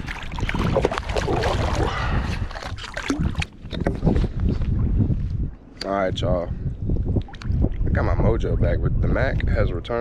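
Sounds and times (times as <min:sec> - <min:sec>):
water splashing and sloshing: 0:00.0 - 0:05.7, 0:07.0 - 0:09.6
wind buffeting microphone: 0:00.0 - 0:10.0.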